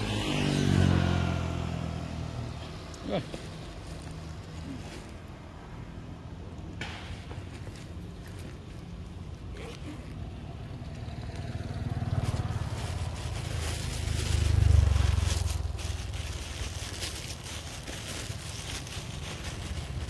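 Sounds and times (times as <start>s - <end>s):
vehicle engine rumble passing: 0.0s - 20.0s.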